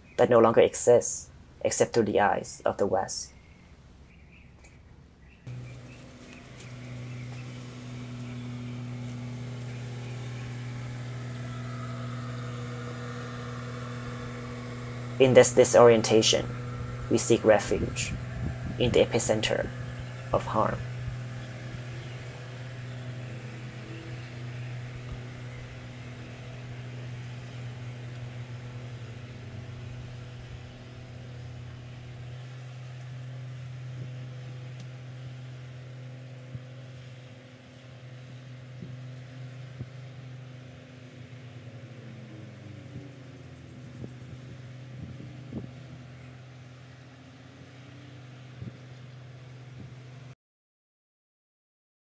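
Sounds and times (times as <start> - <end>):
boat engine droning: 5.5 - 50.4.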